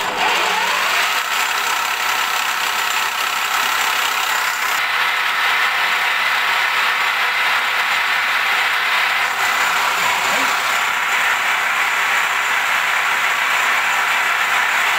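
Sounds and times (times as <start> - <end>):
milling machine cutting steel: 0.0 - 14.8.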